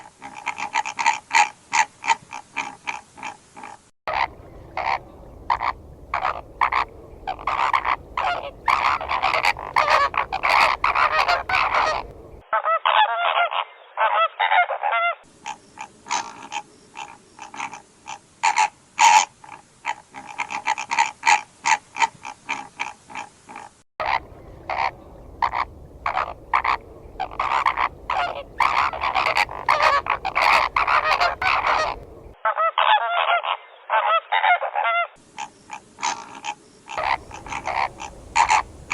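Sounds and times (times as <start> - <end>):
flamingos honking: 0.0 - 38.9.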